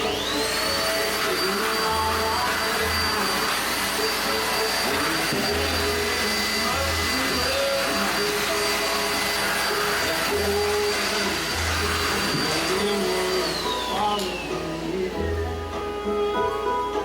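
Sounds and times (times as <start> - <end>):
vacuum cleaner motor whine: 0.0 - 17.0.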